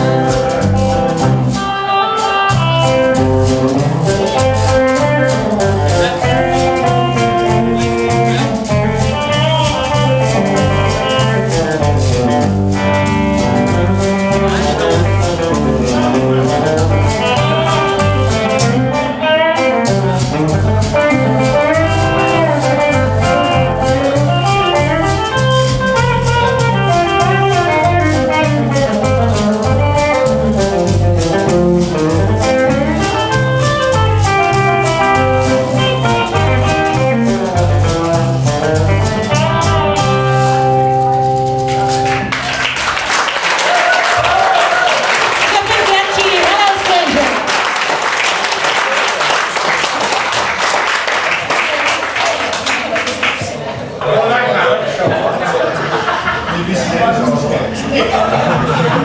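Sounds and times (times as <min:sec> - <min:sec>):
live band playing instrumental: 0:00.0 - 0:53.7.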